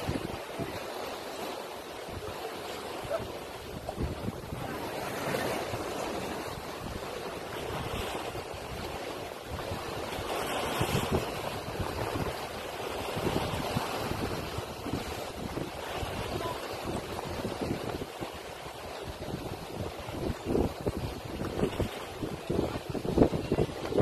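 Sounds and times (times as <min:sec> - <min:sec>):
low wind rumble on microphone: 0:00.0 - 0:01.0, 0:03.1 - 0:24.0
waves breaking over rocks: 0:00.0 - 0:24.0.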